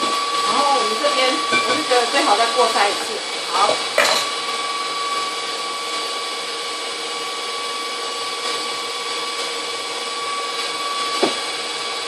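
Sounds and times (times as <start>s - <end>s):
stand mixer motor whining: 0.0s - 12.0s.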